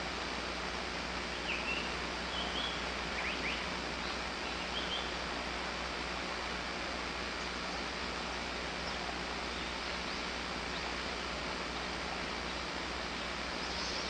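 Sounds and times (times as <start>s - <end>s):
rushing background hiss: 0.0s - 14.0s.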